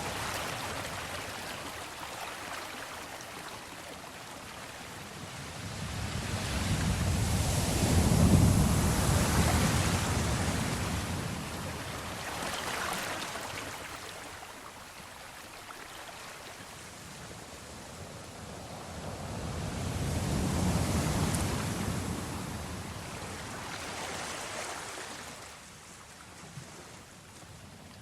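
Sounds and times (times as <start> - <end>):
sea waves surging: 0.0 - 14.9, 16.0 - 25.6.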